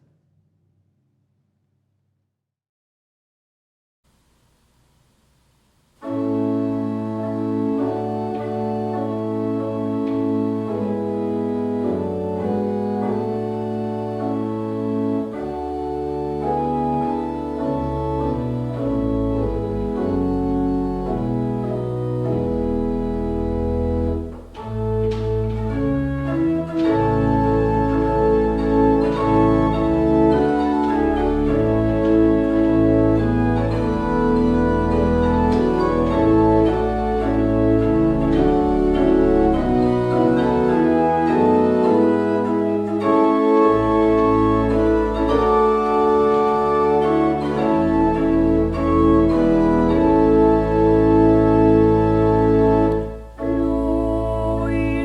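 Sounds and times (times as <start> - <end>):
organ playing hymn chords: 6.0 - 55.0.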